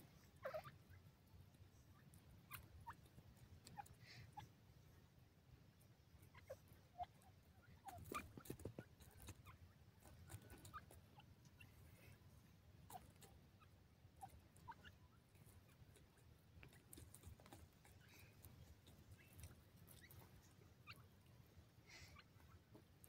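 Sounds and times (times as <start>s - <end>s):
birds pecking at sandy soil: 0.0s - 23.0s.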